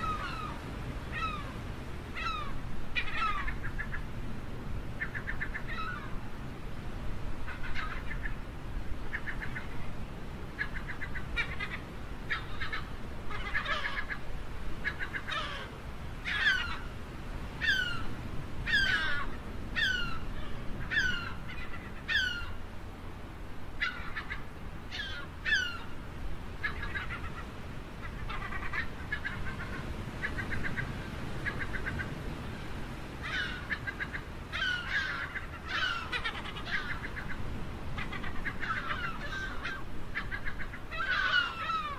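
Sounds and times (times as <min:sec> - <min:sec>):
gulls calling: 0:00.0 - 0:06.5, 0:07.3 - 0:41.9
low background noise: 0:00.0 - 0:41.9.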